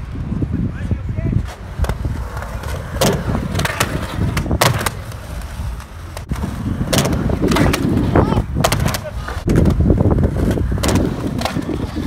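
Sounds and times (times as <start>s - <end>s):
skateboard wheels rolling on concrete: 0.0s - 12.0s
skateboard clacking on ground: 1.4s - 12.0s.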